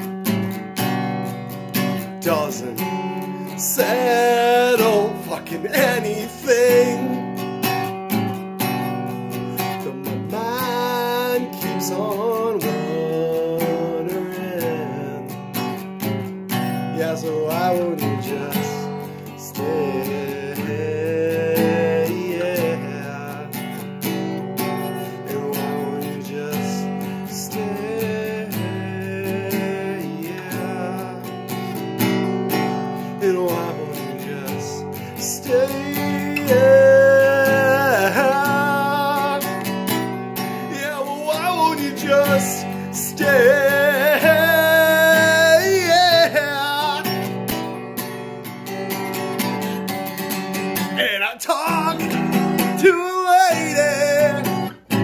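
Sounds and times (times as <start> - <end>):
strummed acoustic guitar: 0.0 - 55.0
man singing: 1.8 - 8.0, 8.7 - 15.8, 16.6 - 47.8, 48.9 - 55.0.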